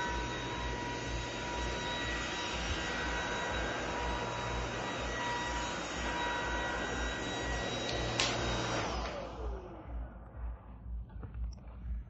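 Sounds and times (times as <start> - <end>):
vacuum motor high whine: 0.0 - 10.3.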